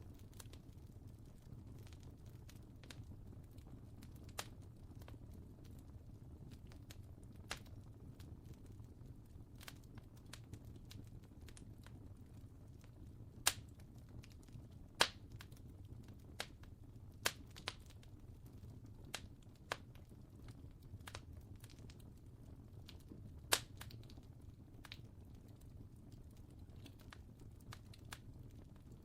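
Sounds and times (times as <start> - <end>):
fire crackling: 0.0 - 29.0.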